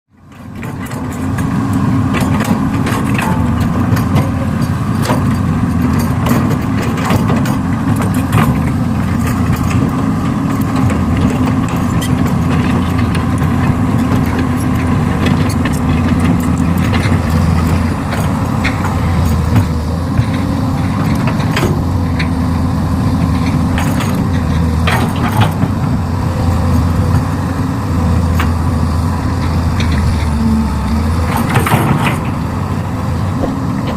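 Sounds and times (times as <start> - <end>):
heavy diesel machinery running: 0.1 - 33.9
knocks and clanks: 0.4 - 22.5, 23.1 - 32.6.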